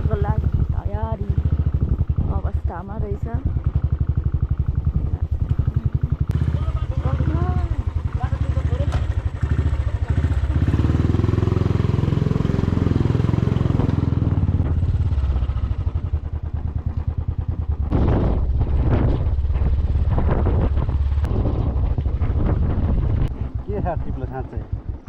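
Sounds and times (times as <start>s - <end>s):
motorcycle engine running: 0.0s - 25.0s
motorcycle rattles and knocks: 0.0s - 25.0s.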